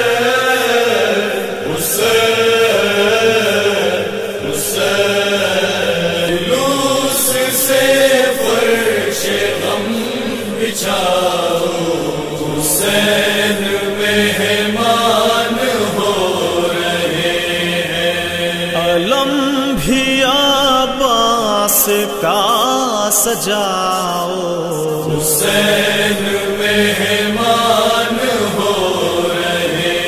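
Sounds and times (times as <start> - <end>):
person chanting a lament: 0.0 - 30.0.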